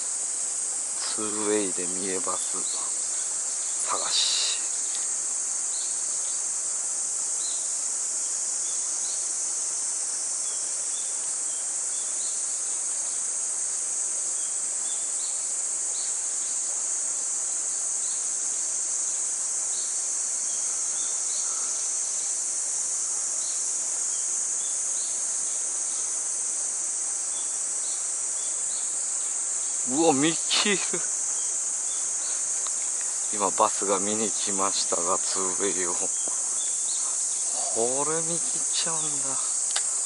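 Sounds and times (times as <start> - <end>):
insects droning: 0.0 - 40.0.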